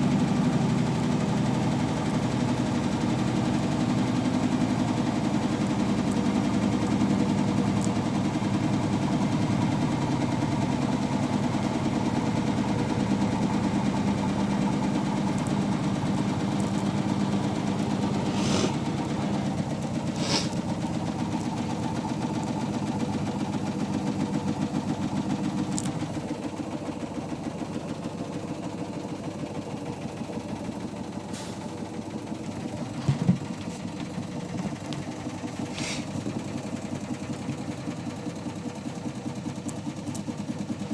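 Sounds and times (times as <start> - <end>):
washing machine spinning: 0.0 - 31.2, 31.8 - 40.9.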